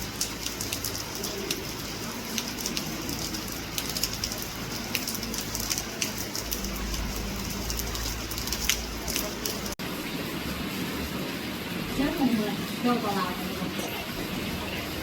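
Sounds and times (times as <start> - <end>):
steady rain with raindrop ticks: 0.0 - 15.0.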